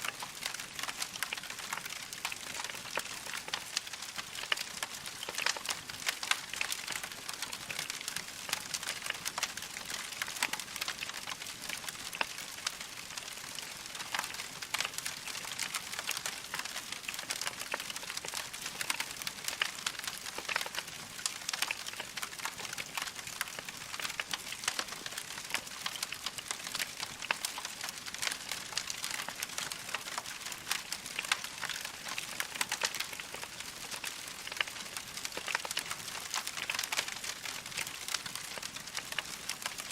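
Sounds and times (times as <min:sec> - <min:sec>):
log fire crackling: 0:00.1 - 0:39.9.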